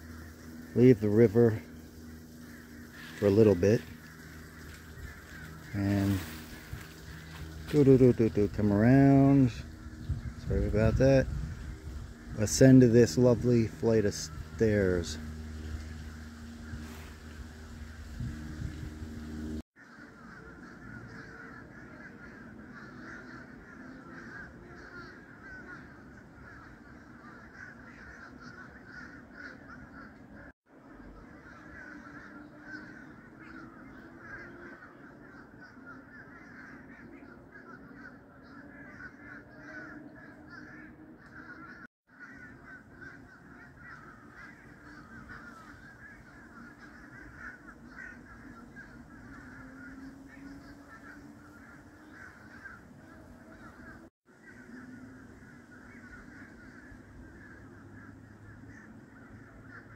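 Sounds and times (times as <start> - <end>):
flock of birds calling: 0.0 - 59.9.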